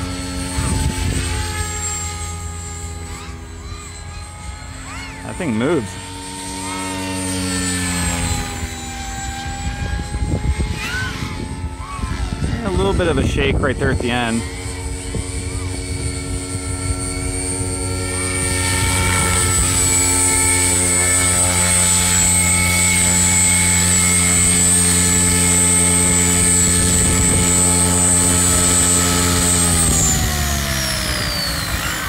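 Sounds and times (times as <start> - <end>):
rc helicopter rotor whining: 0.0 - 32.0.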